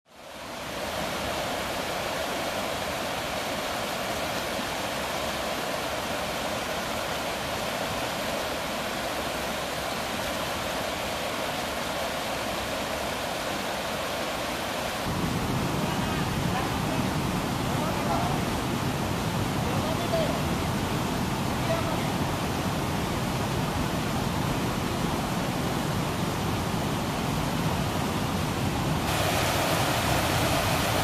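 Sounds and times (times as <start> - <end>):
stream rushing over rocks: 0.1 - 31.0.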